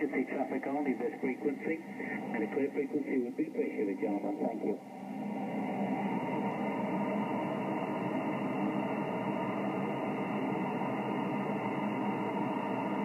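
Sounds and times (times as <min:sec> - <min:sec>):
radio receiver static hiss: 0:00.0 - 0:13.0.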